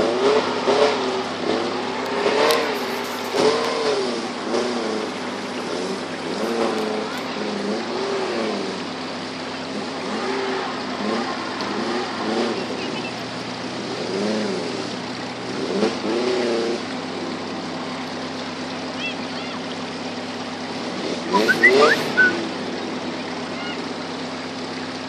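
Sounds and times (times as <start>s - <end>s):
car engine running: 0.0s - 25.0s
river water rushing: 0.0s - 25.0s.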